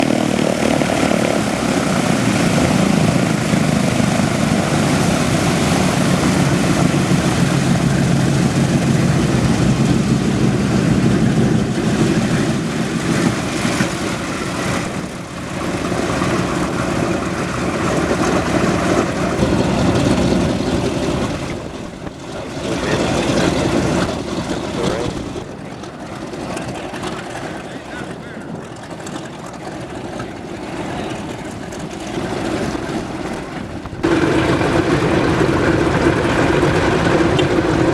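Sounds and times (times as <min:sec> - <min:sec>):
propeller aircraft engines droning: 0:00.0 - 0:37.9.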